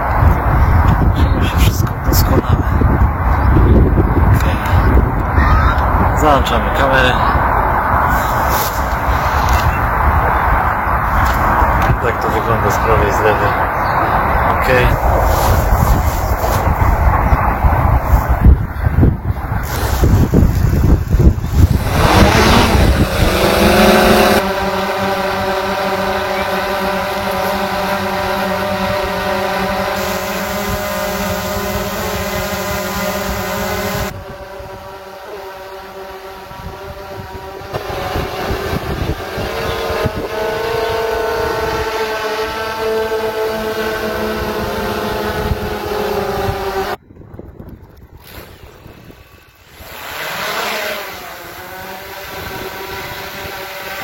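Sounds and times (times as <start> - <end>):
drone propellers whining: 0.0 - 54.0
rushing wind noise: 0.0 - 54.0.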